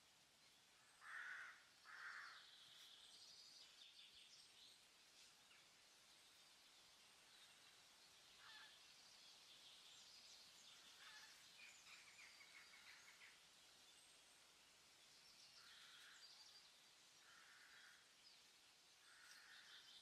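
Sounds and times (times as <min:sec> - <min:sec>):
background hiss: 0:00.0 - 0:20.0
small birds chirping: 0:00.0 - 0:20.0.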